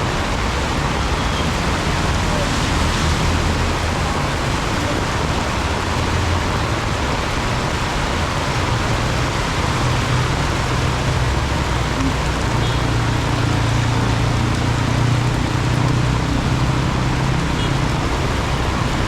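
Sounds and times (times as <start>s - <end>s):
heavy rain pouring: 0.0s - 19.0s
passing traffic hum: 0.0s - 19.0s.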